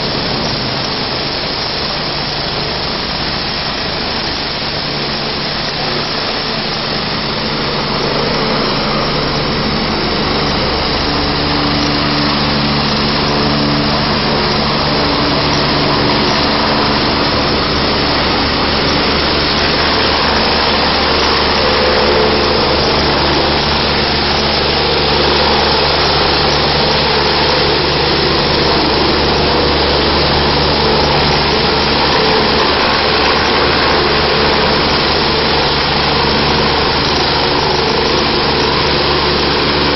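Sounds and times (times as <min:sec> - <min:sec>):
helicopter turbine and rotors: 0:00.0 - 0:39.9.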